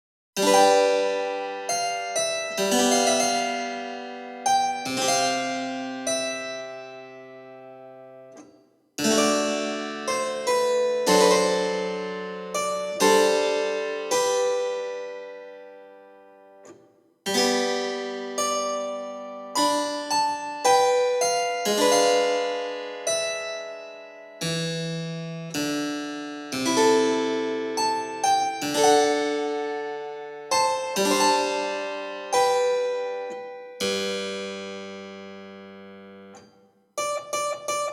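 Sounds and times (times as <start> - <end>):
keyboard notes and chords: 0.4 - 37.9.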